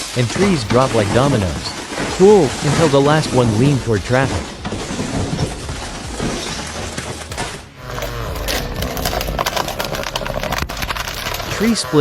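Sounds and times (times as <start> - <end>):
wood cracking and snapping: 0.0 - 12.0.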